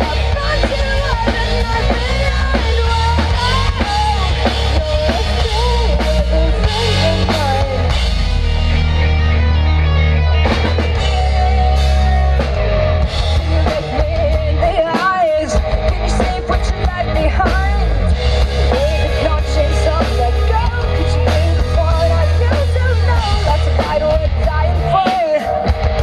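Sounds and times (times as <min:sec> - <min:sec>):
person singing: 0:00.0 - 0:08.8, 0:11.0 - 0:25.7
live rock band playing: 0:00.0 - 0:26.0.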